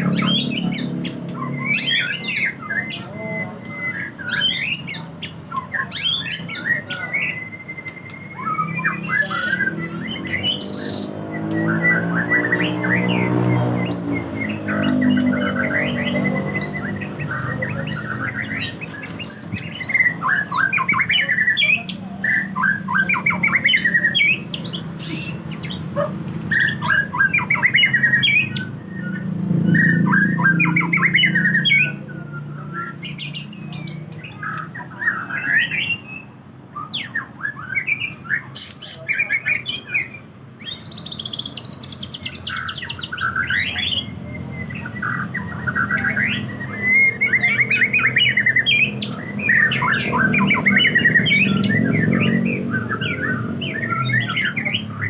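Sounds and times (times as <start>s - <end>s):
bird singing whistled phrases: 0.0s - 55.0s.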